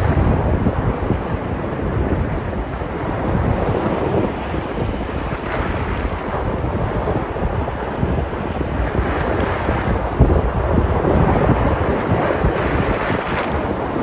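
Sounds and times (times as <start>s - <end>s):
sea surf washing onto shore: 0.0s - 14.0s
wind buffeting microphone: 0.0s - 14.0s.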